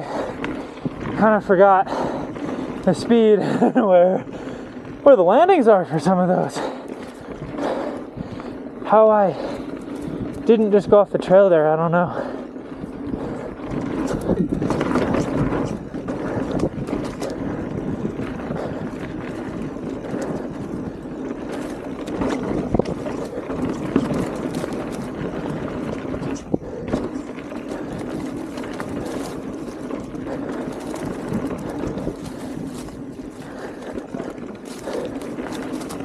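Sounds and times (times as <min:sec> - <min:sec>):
bike rattling clicks and knocks: 0:00.0 - 0:36.0
bike tyres rumbling on dirt trail: 0:00.0 - 0:36.0.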